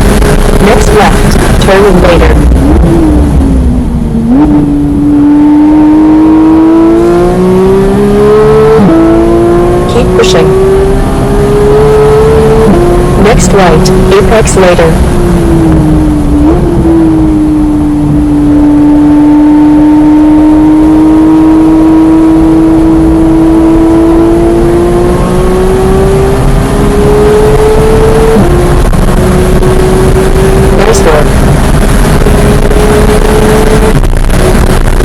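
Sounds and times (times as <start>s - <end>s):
tyre and road noise: 0.0s - 18.2s, 22.1s - 35.0s
car engine accelerating from inside: 0.0s - 35.0s.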